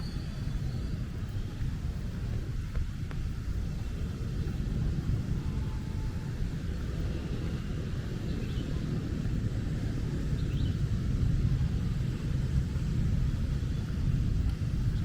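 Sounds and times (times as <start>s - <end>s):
rain: 0.0s - 15.0s
traffic rumble: 0.0s - 15.0s.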